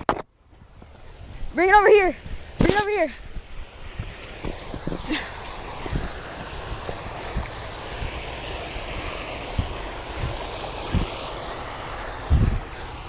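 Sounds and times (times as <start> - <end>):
wind buffeting microphone: 0.4 - 13.0
wind rushing: 0.6 - 13.0
creek water flowing: 0.8 - 13.0.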